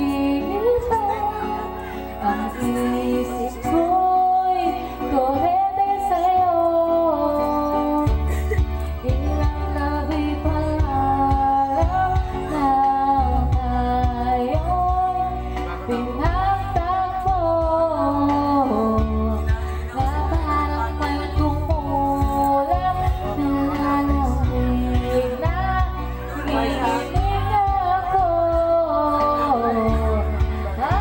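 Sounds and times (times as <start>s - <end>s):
backing track with pulsing bass: 0.0s - 31.0s
woman singing karaoke: 0.0s - 31.0s.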